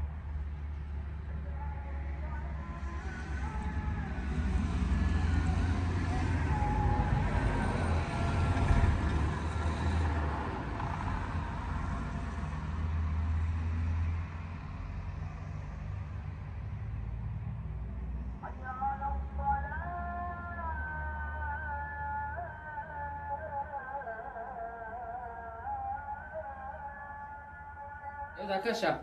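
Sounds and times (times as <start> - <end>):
van passing on road: 0.0 - 29.0.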